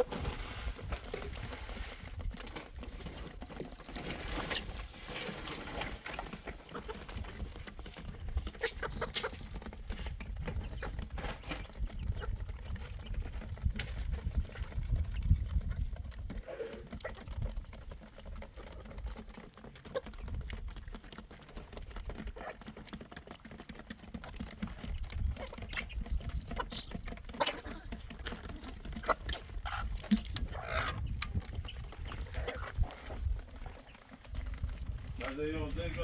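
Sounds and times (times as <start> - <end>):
farm animals calling: 0.0 - 36.0.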